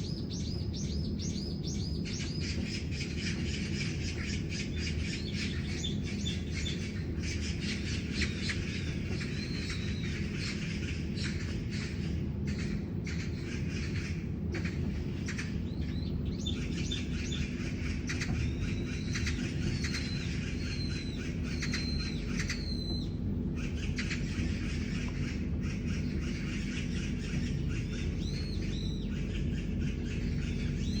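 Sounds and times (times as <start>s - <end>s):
small birds chirping and squawking: 0.0s - 31.0s
steady low hum: 0.0s - 31.0s.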